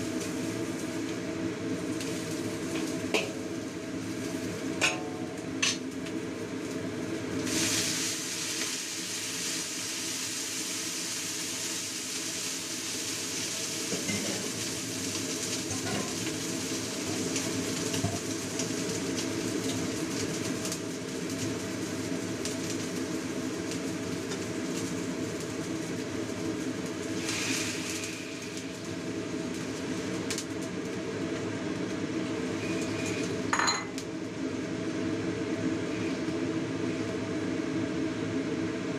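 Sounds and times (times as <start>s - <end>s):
meat sizzling in a wok: 0.0s - 38.9s.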